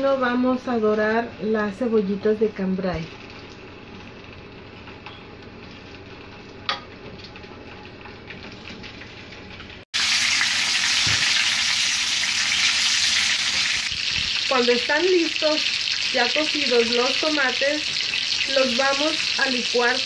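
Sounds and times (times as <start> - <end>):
onions sizzling in a frying pan: 0.8 - 20.0.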